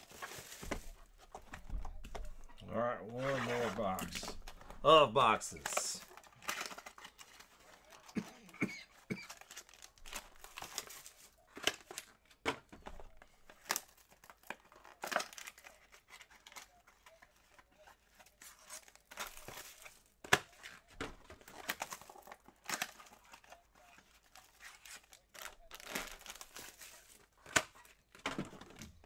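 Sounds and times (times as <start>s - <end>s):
packaging crinkling and tearing: 0.0s - 2.5s, 3.1s - 4.6s, 5.5s - 29.0s.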